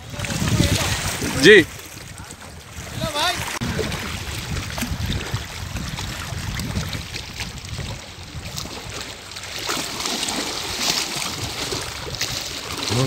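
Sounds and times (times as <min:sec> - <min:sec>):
wind buffeting microphone: 0:00.0 - 0:09.4, 0:10.5 - 0:13.0
water lapping against rocks: 0:00.0 - 0:13.0.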